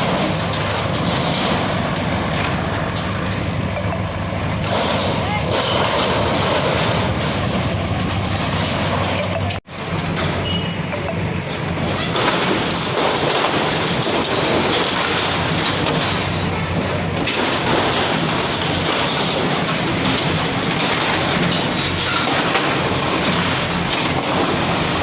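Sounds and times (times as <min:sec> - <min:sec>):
diesel engine rattling: 0:00.0 - 0:25.0.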